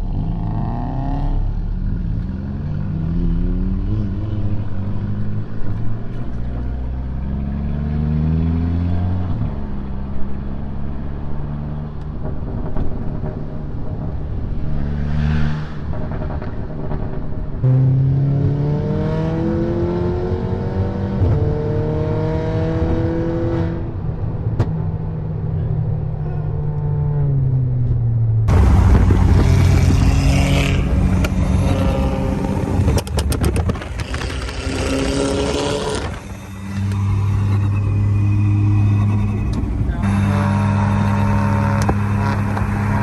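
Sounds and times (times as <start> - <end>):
car engine accelerating: 0.0 - 43.0
road noise: 0.0 - 43.0.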